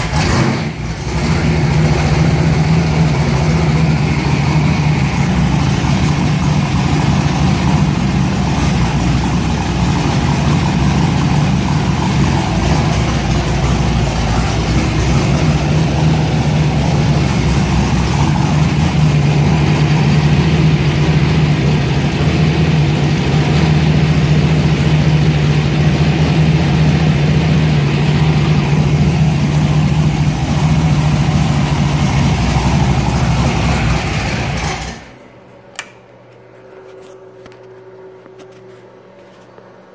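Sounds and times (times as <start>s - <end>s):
engine idling: 0.0s - 35.2s.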